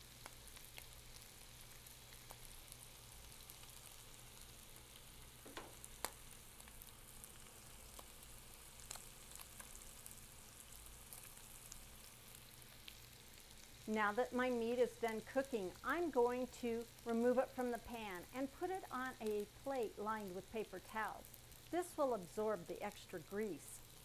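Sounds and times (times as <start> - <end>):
ground beef sizzling in a skillet: 0.0 - 24.0.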